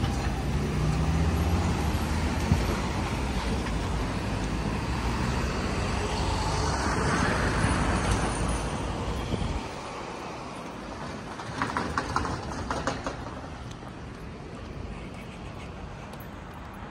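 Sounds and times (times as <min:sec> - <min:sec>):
low rumble of road traffic: 0:00.0 - 0:16.9
street ambience: 0:00.0 - 0:16.9.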